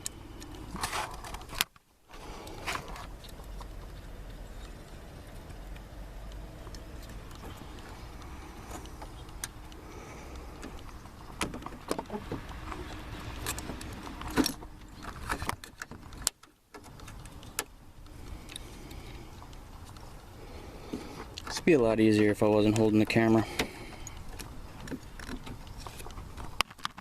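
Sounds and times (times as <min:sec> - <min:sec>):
light clicks and metallic rattles: 0:02.4 - 0:27.0.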